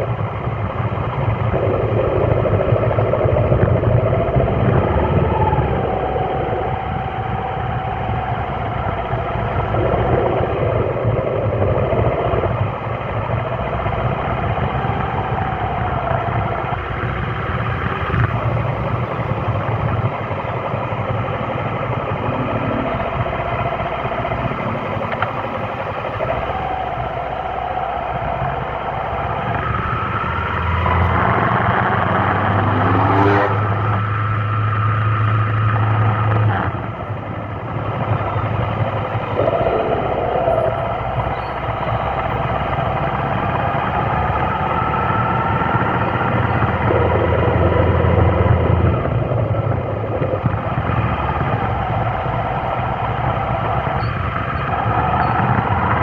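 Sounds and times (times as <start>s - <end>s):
vehicle engines in slow traffic: 0.0s - 56.0s.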